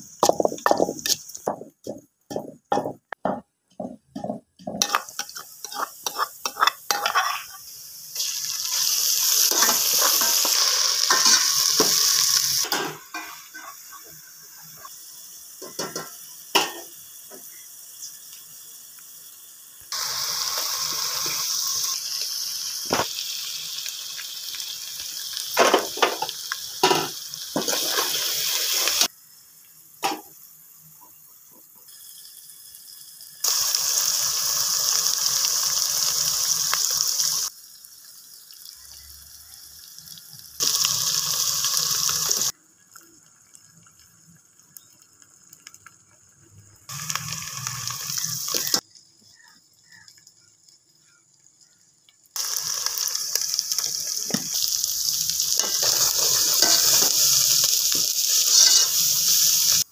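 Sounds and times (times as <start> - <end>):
food sizzling in hot oil: 0.0 - 3.1, 4.1 - 59.9.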